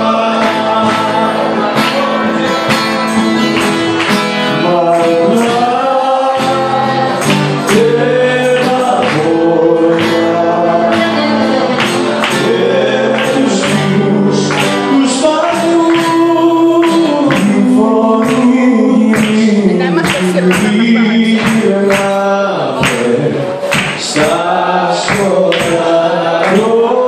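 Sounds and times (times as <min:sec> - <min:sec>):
man singing: 0:00.0 - 0:03.1, 0:04.3 - 0:27.0
plucked string instrument strumming: 0:00.0 - 0:27.0.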